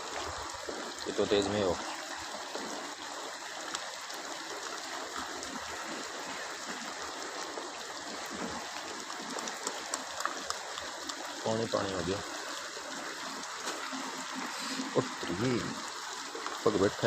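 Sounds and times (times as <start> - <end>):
heavy rain on a flat roof: 0.0 - 17.0.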